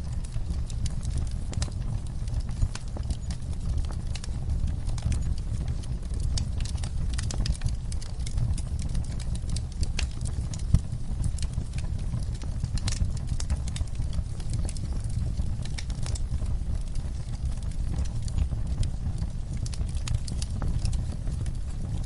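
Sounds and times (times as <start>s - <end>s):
soft rainfall: 0.0s - 22.0s
wood fire crackling and popping: 0.0s - 22.0s.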